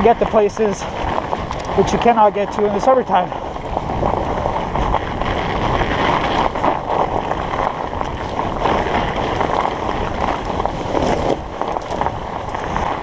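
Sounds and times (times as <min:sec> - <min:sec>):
studded bike tires rolling on ice: 0:00.0 - 0:13.0
wind buffeting microphone: 0:00.0 - 0:13.0.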